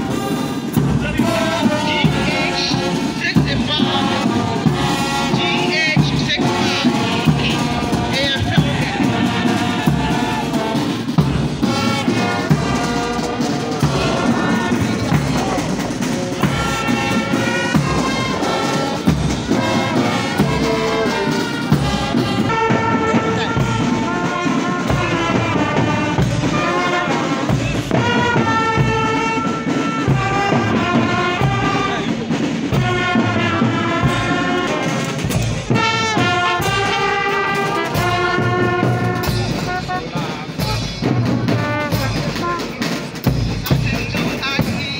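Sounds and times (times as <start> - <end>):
brass band playing march: 0.0 - 44.9
steady drum beat: 0.0 - 44.9.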